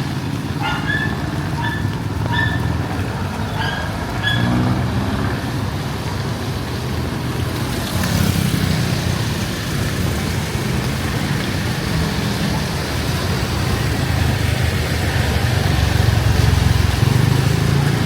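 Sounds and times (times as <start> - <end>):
road noise: 0.0 - 18.0
vehicle engines running: 0.0 - 18.0.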